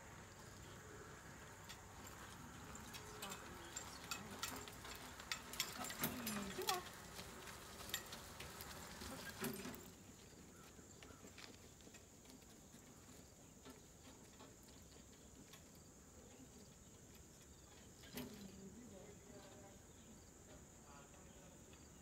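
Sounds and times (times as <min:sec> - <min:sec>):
high insect hum: 0:00.0 - 0:22.0
horse hoofbeats on dirt: 0:01.4 - 0:20.3.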